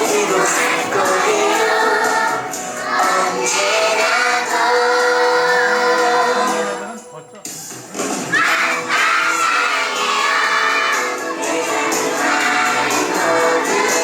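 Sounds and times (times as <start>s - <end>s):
children singing together: 0.0s - 6.7s, 8.3s - 14.0s
backing music: 0.0s - 14.0s.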